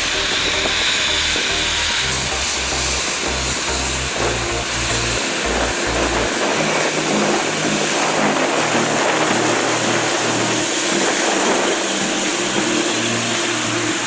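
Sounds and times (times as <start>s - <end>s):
jet engine taxiing: 0.0s - 14.0s.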